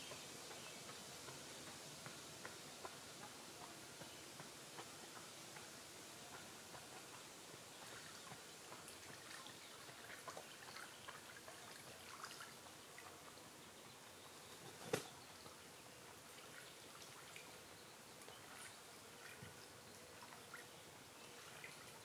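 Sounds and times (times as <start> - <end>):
water trickling and dripping: 0.1 - 14.6, 15.4 - 22.0.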